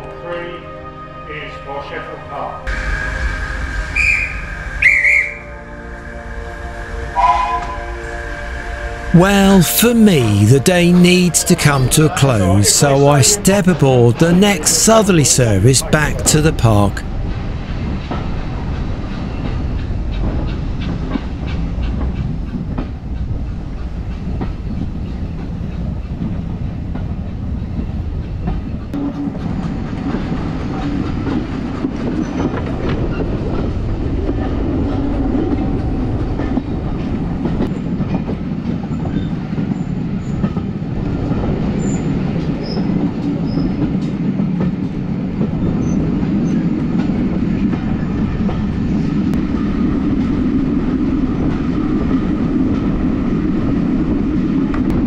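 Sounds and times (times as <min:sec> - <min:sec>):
train low rumble: 0:00.0 - 0:55.0.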